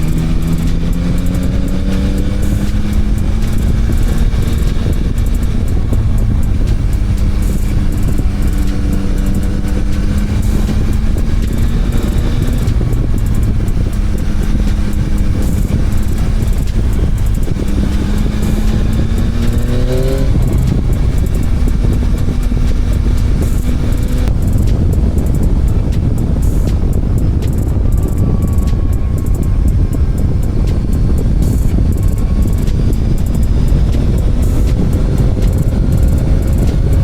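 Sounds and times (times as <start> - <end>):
motorcycle engine running: 0.0 - 37.0
wind rumble on microphone: 0.0 - 37.0.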